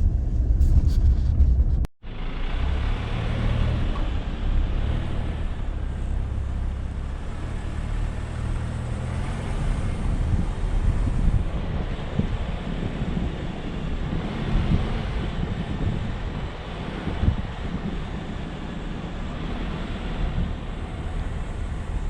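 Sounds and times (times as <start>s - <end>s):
pickup truck engine drone: 0.0s - 22.0s
tyre and road noise: 0.0s - 22.0s.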